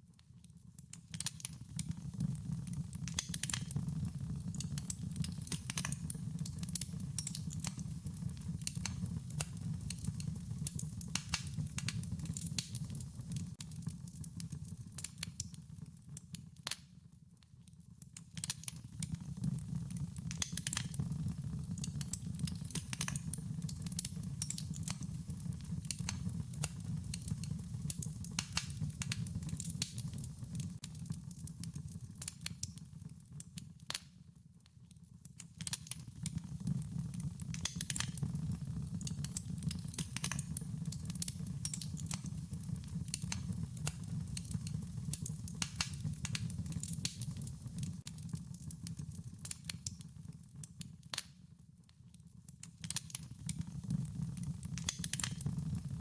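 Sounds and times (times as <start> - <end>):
fire snaps and pops: 0.1 - 56.0.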